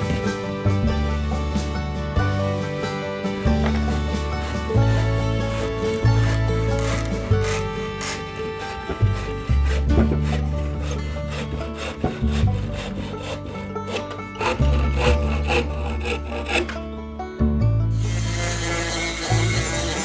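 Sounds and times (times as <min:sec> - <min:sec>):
hand tool working wood: 0:00.0 - 0:17.0, 0:17.9 - 0:20.0
background music with bass line: 0:00.0 - 0:20.0.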